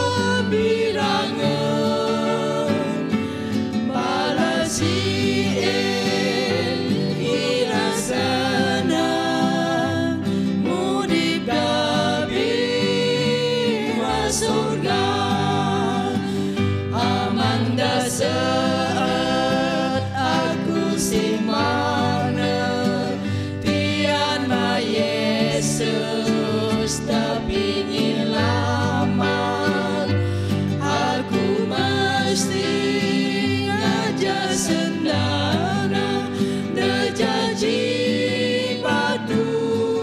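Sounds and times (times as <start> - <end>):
acoustic guitar: 0.0 - 40.0
group singing a hymn: 0.0 - 40.0.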